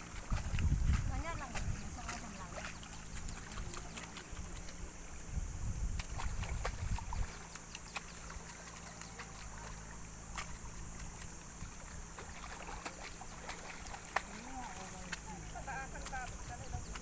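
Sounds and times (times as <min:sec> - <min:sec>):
wind on microphone: 0:00.0 - 0:07.6, 0:10.6 - 0:17.0
muddy water splashing: 0:00.0 - 0:17.0.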